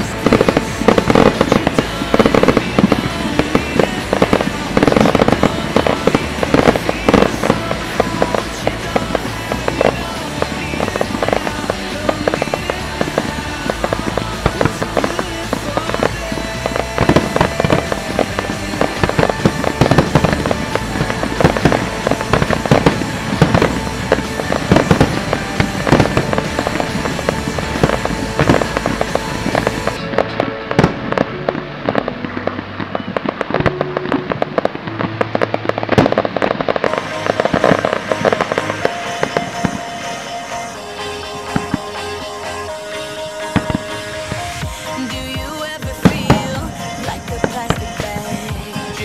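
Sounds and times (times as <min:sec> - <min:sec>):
fireworks bangs and crackles: 0:00.0 - 0:49.0
music soundtrack: 0:00.0 - 0:49.0.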